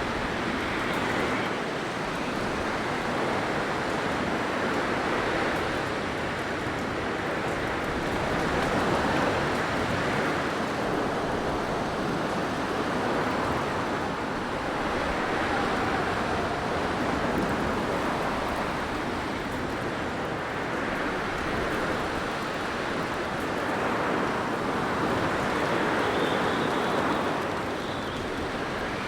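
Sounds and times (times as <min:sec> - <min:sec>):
blizzard wind rushing: 0:00.0 - 0:29.0
faint wind howl: 0:00.0 - 0:29.0.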